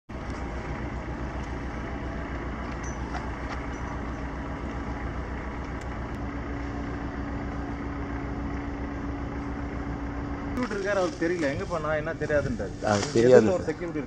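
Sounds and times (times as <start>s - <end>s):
low mechanical drone: 0.1s - 14.0s.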